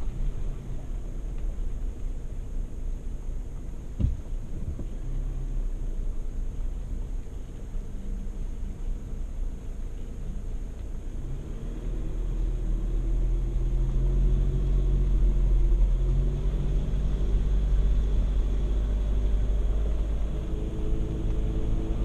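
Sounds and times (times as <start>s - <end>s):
heavy low rumble: 0.0s - 22.0s.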